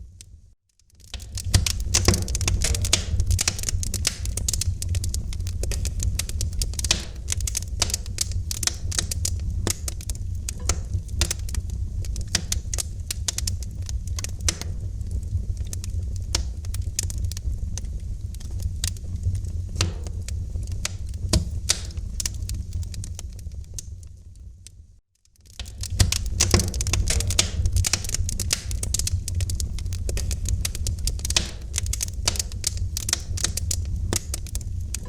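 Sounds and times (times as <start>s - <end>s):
low rumble of flames: 0.0s - 35.0s
wood fire crackling: 0.0s - 35.0s.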